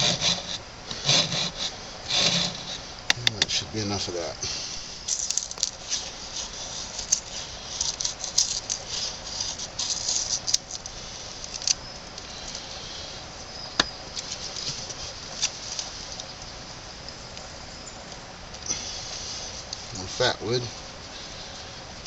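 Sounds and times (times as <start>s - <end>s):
scratching and rustling of tinder: 0.0s - 22.0s.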